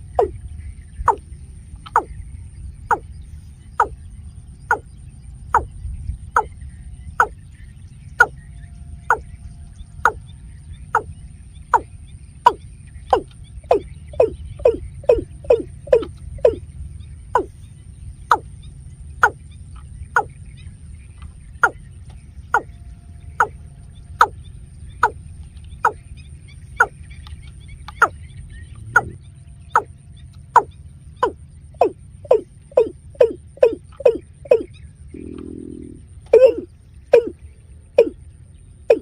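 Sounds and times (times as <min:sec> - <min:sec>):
bird calling hollow notes: 0:00.0 - 0:39.0.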